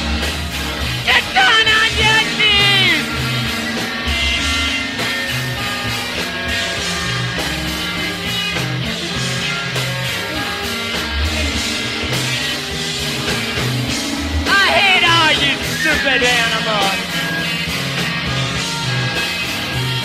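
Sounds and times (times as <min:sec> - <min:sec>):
bass line: 0:00.0 - 0:18.8
rock guitar: 0:00.0 - 0:20.0.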